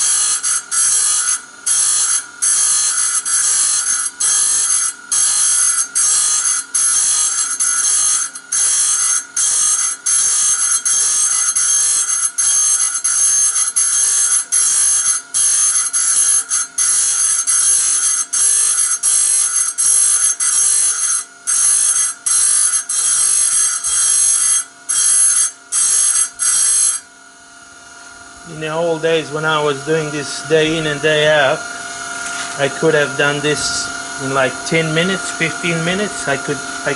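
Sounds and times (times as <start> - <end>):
high-pitched grinding tool whine: 0.0 - 36.9.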